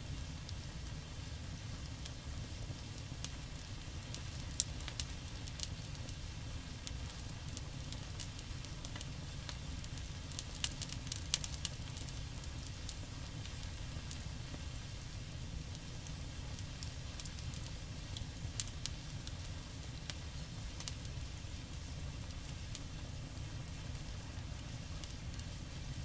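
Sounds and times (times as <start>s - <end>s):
oil crackling and popping on griddle: 0.1s - 26.0s.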